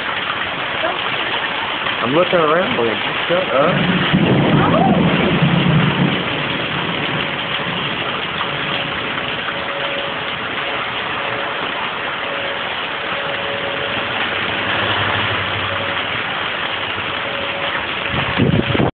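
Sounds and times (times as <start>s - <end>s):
heavy rain: 0.0s - 18.9s
distant tornado siren: 3.6s - 18.9s.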